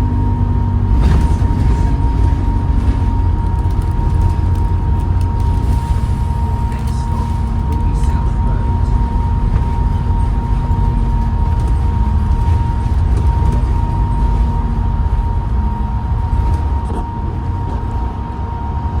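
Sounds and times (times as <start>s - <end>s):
bus engine rumbling: 0.0s - 19.0s
high turbo whine: 0.0s - 19.0s
lower whine: 0.0s - 19.0s.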